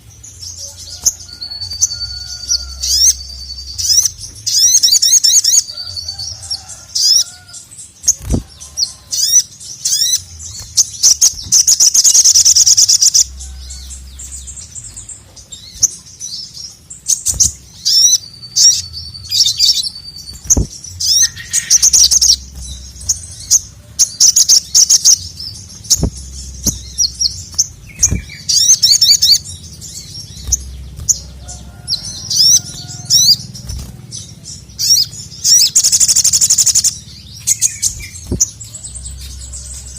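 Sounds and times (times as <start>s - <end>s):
bird calling in high chirps: 0.6s - 39.9s.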